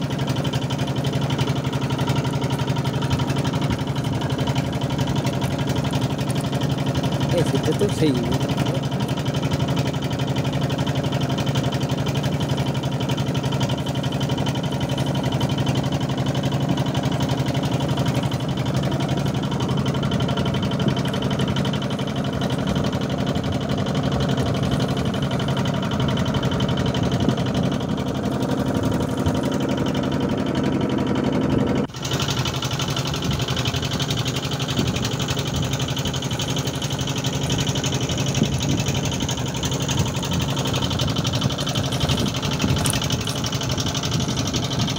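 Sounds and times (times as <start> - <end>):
boat engine humming: 0.0 - 44.9.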